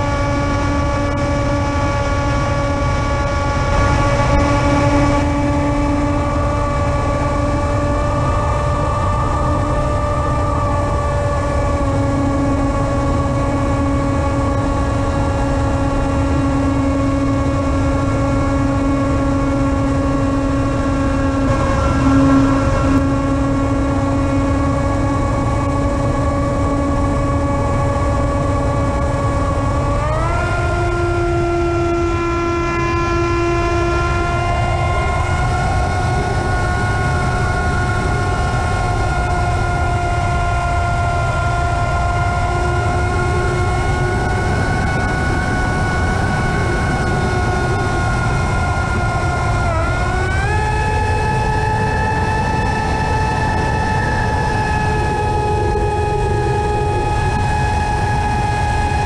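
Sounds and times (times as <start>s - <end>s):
electronic droning chords: 0.0s - 59.0s
low rumble: 0.0s - 59.0s.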